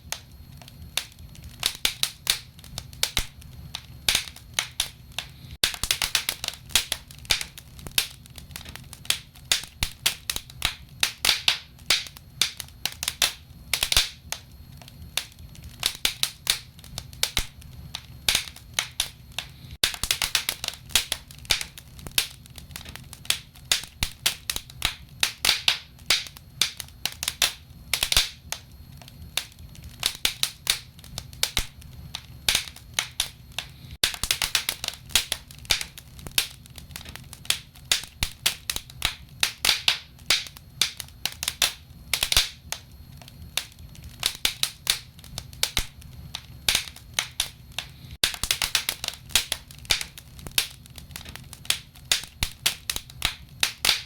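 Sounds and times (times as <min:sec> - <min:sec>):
low fire rumble: 0:00.0 - 0:54.0
wood fire crackling: 0:00.0 - 0:54.0.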